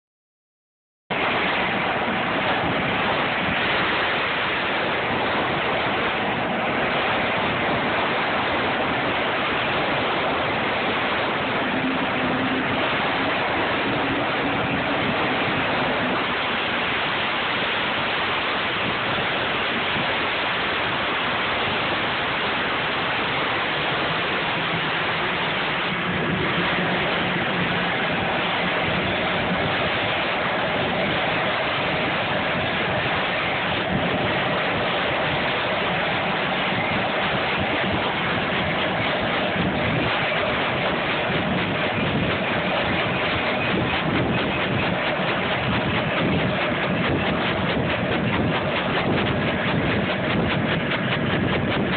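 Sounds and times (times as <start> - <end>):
helicopter turbine and rotor noise: 1.1 - 51.9.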